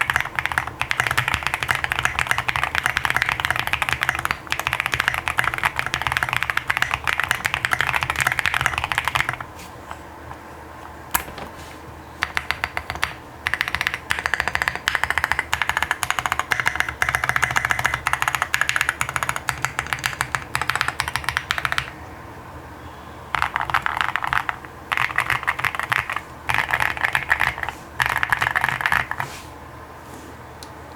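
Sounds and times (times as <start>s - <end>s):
mechanical keyboard typing: 0.0s - 9.5s, 12.2s - 22.0s, 23.3s - 29.3s.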